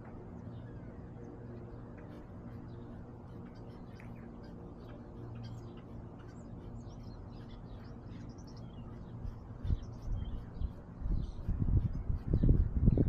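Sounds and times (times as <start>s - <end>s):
small birds chirping: 0.0s - 13.0s
steady low hum: 0.0s - 13.0s
camera rubbing against fur: 1.9s - 13.0s.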